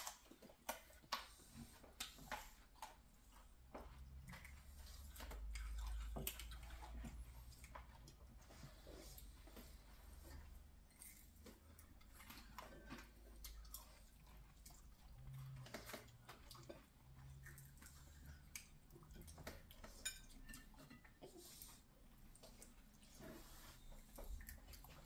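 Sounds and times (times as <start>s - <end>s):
eating noises: 0.0s - 25.0s.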